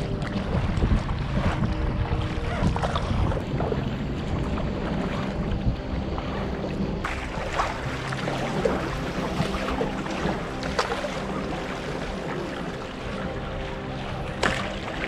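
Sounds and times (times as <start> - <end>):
paddle splashing in water: 0.0 - 15.0
steady low hum: 0.0 - 15.0.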